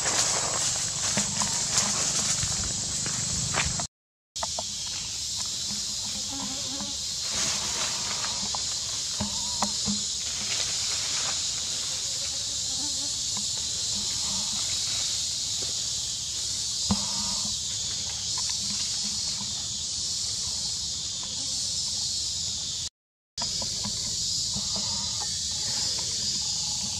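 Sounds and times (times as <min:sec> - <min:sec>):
insect chorus drone: 0:00.0 - 0:26.9.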